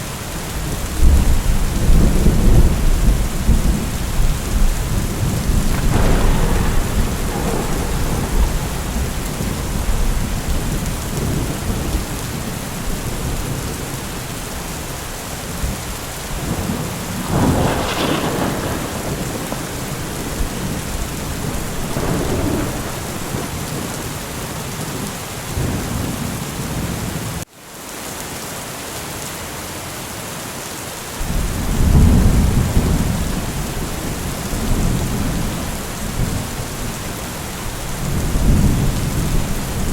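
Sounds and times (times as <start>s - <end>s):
heavy rain: 0.0s - 39.9s
rolling thunder: 0.6s - 27.0s, 31.2s - 39.9s.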